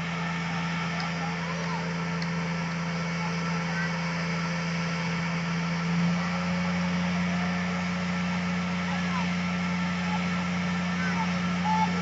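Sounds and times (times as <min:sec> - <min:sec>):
crane diesel engine droning: 0:00.0 - 0:12.0.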